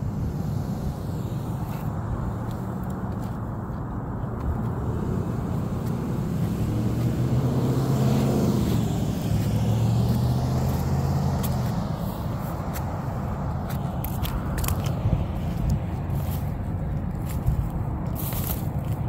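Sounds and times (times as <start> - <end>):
engine passing by: 0.0 - 19.0.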